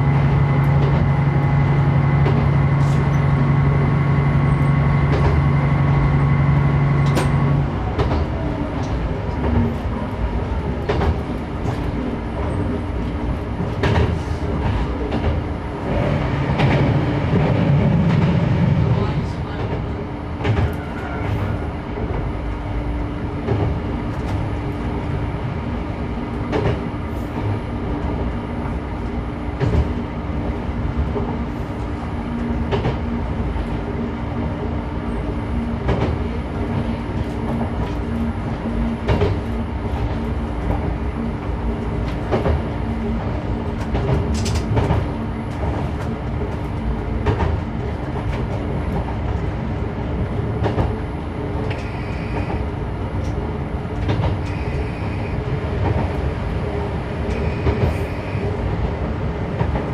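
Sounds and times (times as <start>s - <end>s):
diesel railcar engine hum: 0.0s - 59.9s.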